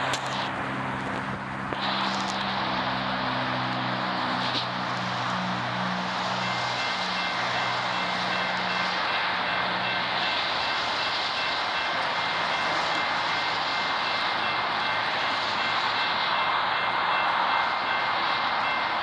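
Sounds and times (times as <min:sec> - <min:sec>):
diesel locomotives roaring: 0:00.0 - 0:19.0.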